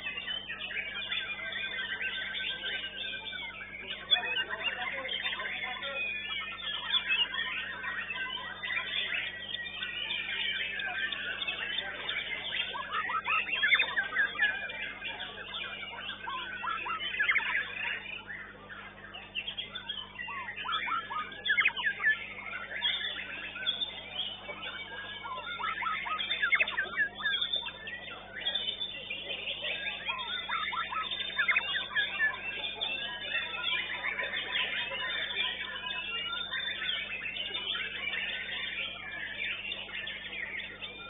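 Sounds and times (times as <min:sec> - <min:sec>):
bird singing whistles and chirps: 0:00.0 - 0:41.0.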